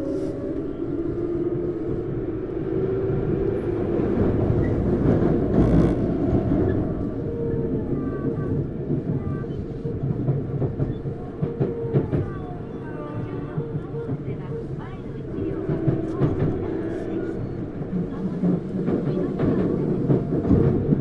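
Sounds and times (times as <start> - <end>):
train wheel and rail rumble: 0.0 - 21.0.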